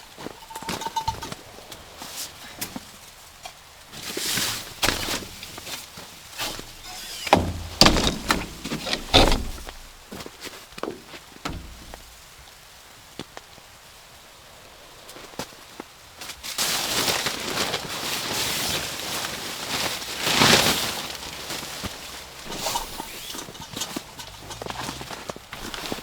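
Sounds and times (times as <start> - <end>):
rustling and scraping: 0.0 - 12.6, 16.2 - 26.0.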